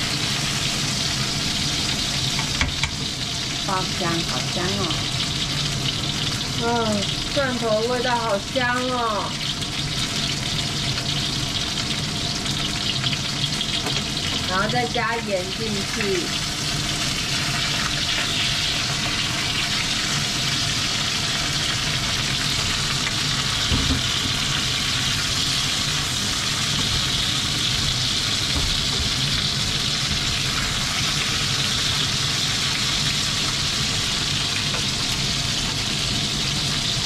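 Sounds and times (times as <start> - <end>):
chicken frying in hot oil: 0.0 - 37.0.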